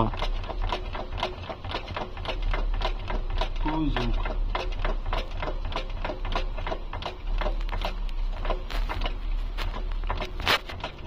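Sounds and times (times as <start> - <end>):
driveshaft knocking: 0.0 - 11.0.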